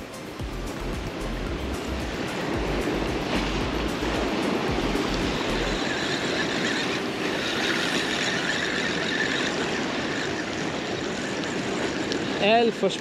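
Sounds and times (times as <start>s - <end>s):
surf rushing: 0.0s - 13.0s
wind buffeting microphone: 0.0s - 13.0s.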